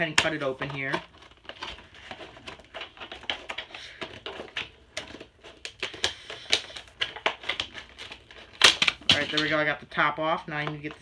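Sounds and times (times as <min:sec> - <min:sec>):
blade cutting packaging: 0:00.0 - 0:09.6.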